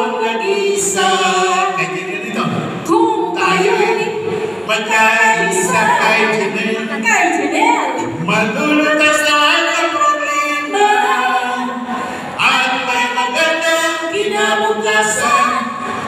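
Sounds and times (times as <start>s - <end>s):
group of people singing: 0.0s - 16.0s.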